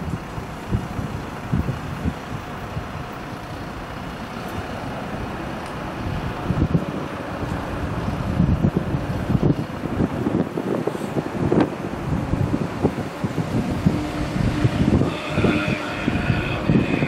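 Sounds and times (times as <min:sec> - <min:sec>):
wind on microphone: 0:00.0 - 0:03.0, 0:04.6 - 0:17.0
distant train rumble: 0:00.0 - 0:17.0.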